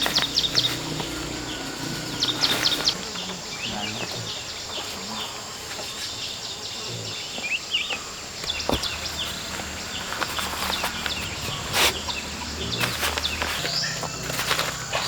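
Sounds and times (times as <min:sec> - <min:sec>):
high insect drone: 0:00.0 - 0:15.0
small birds chirping: 0:00.0 - 0:15.0.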